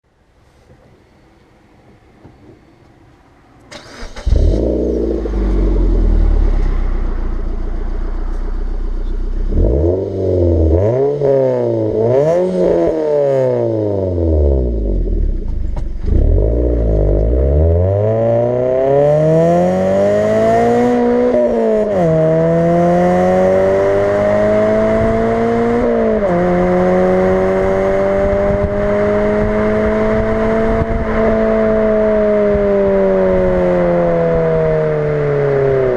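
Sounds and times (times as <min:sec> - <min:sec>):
car engine idling and revving: 0:02.2 - 0:35.9.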